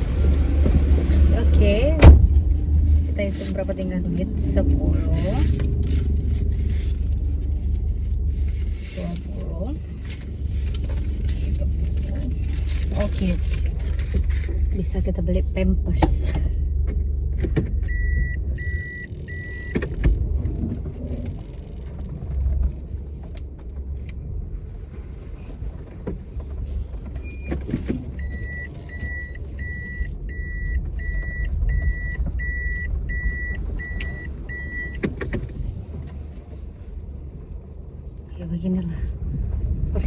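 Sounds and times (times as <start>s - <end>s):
car engine rumble: 0.0s - 40.0s.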